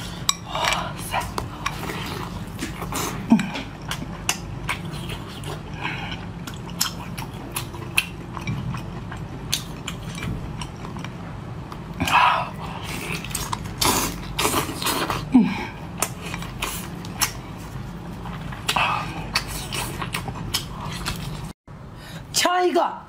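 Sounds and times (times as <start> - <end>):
woman chewing: 0.0 - 21.6.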